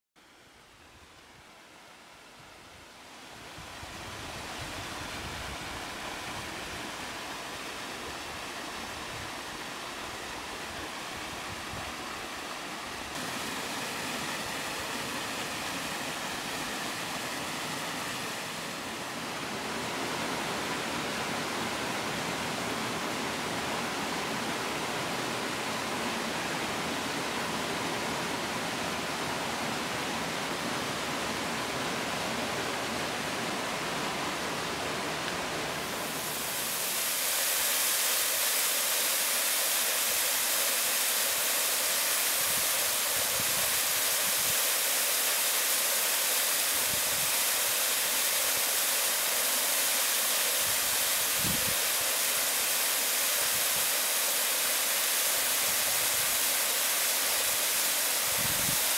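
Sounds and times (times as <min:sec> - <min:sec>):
waterfall rushing into a pool: 0:01.7 - 0:58.9.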